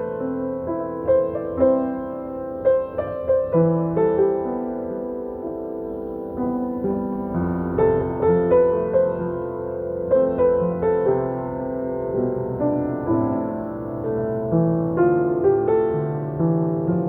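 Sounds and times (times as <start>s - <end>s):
solo piano ballad: 0.0s - 17.0s.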